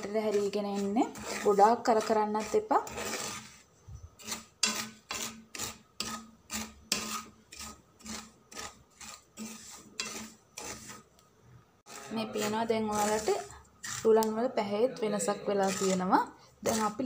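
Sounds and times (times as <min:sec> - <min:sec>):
wooden spoon scraping pan: 0:00.0 - 0:11.2, 0:11.8 - 0:17.0.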